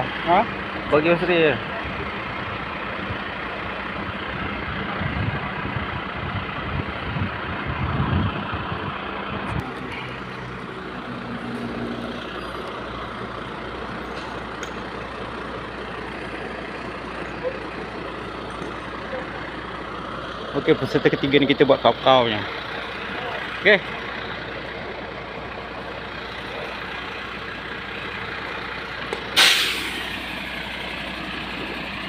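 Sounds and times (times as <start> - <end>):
fire engine pump running: 0.0 - 32.0.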